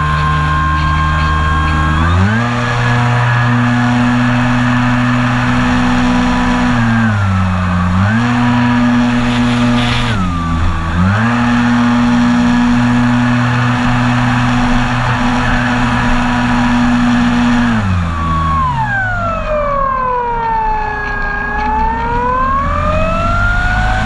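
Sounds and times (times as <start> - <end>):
model airplane engine: 0.0 - 19.6.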